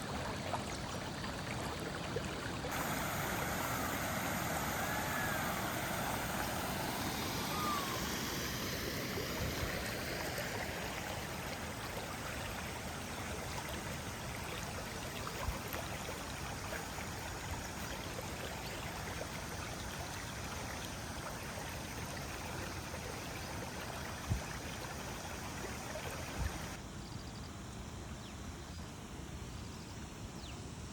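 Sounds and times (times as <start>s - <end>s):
rush of running water: 0.0s - 26.8s.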